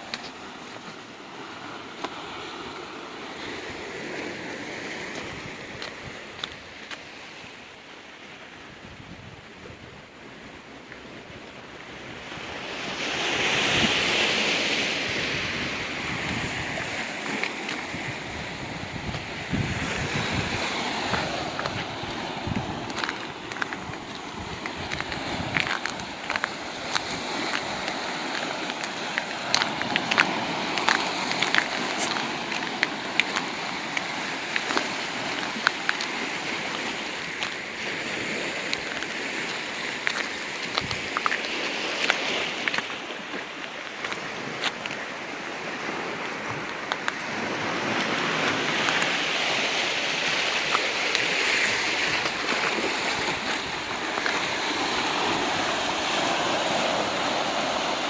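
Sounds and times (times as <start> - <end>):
small waves washing among rocks: 0.0 - 8.6, 10.2 - 58.0
larger wash of water: 0.0 - 58.0.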